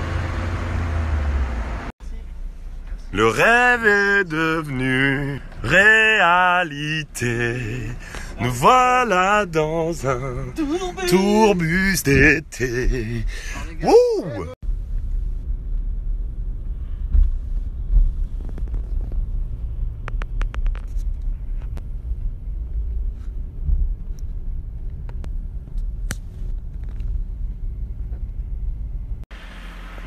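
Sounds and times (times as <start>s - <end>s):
bus road rumble: 0.0s - 30.0s.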